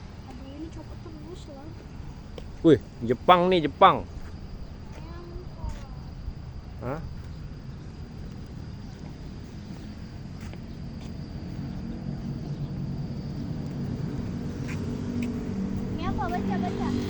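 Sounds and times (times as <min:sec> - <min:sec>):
faint high whine: 0:00.0 - 0:17.0
vehicle engine rumbling: 0:00.0 - 0:17.0.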